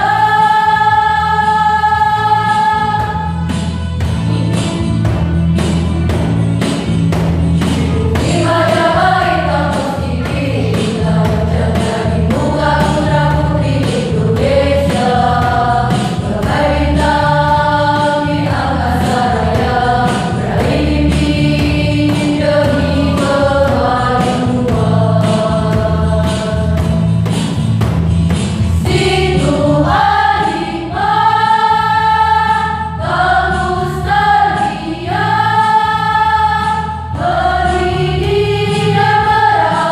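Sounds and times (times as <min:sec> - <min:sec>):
choir singing held notes: 0:00.0 - 0:03.7, 0:07.7 - 0:27.1, 0:28.8 - 0:39.9
instrumental accompaniment: 0:00.0 - 0:39.9.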